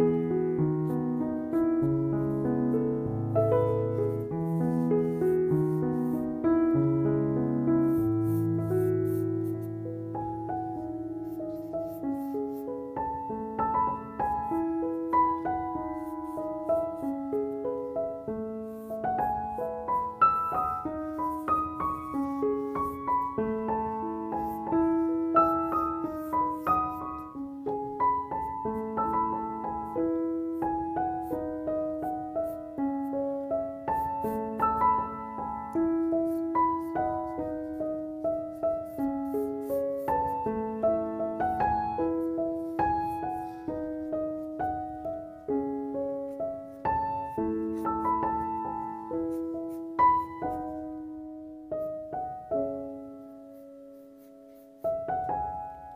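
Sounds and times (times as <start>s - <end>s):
piano music: 0.0s - 55.9s.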